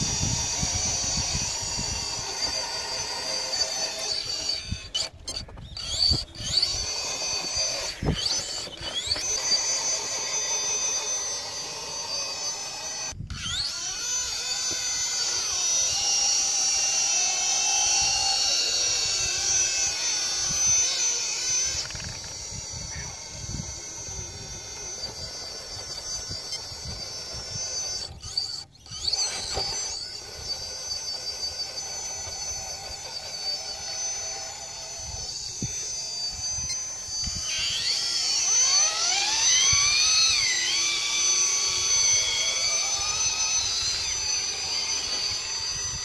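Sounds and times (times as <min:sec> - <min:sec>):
toy truck electric motors whining: 0:00.0 - 0:46.0.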